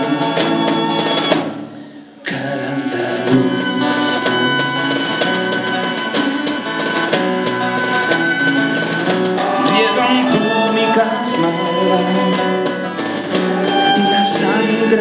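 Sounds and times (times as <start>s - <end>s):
violin melody with vibrato: 0.0s - 1.4s, 2.6s - 15.0s
drums steady beat: 0.0s - 1.9s, 3.2s - 15.0s
acoustic guitar: 0.0s - 15.0s.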